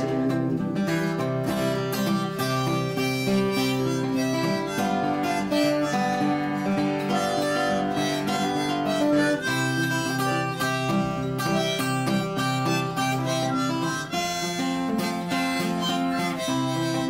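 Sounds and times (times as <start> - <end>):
acoustic guitar strumming: 0.0 - 17.0
harmonica melody: 0.0 - 17.0.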